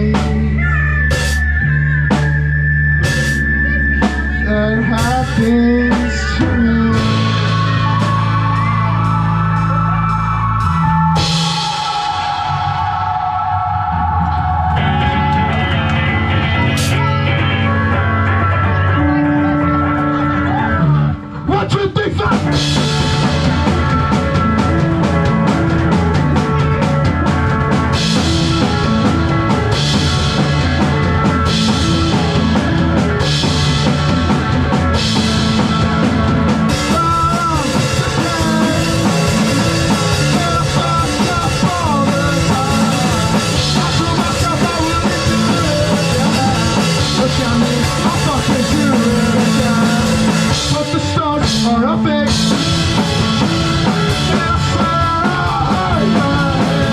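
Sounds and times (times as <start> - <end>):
drum kit driving beat: 0.0 - 56.9
live rock music: 0.0 - 56.9.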